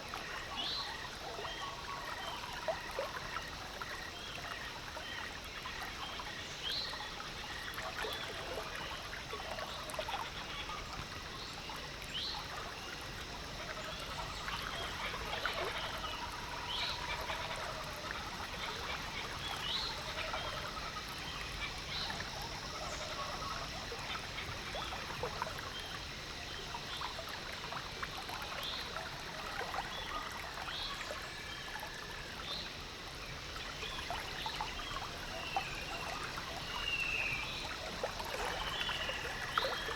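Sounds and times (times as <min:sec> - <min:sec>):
water trickling and lapping: 0:00.0 - 0:39.9.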